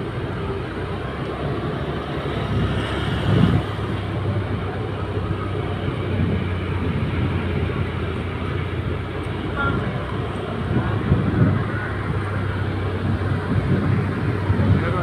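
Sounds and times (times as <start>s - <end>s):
motorbike engine hum: 0.0s - 15.0s
road and wind noise: 0.0s - 15.0s.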